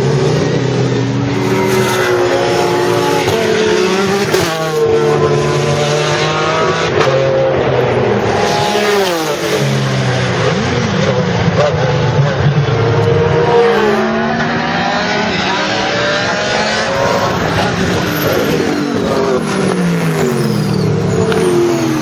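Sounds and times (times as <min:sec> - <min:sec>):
racing car engine accelerating: 0:00.0 - 0:22.0.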